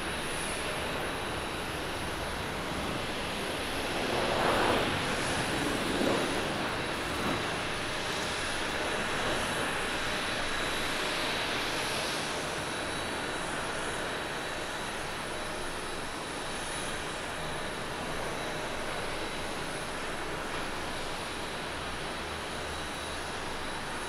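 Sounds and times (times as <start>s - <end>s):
jet engine noise with high whine: 0.0s - 24.0s.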